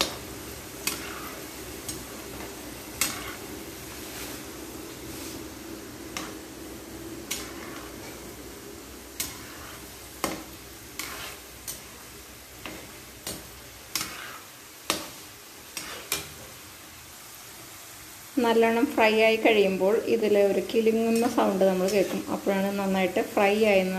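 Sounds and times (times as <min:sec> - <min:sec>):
fries sizzling in oil: 0:00.0 - 0:23.9.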